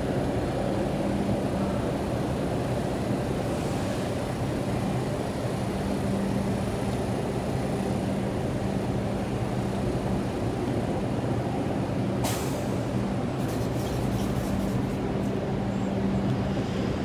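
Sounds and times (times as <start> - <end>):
subway train humming: 0.0 - 17.0.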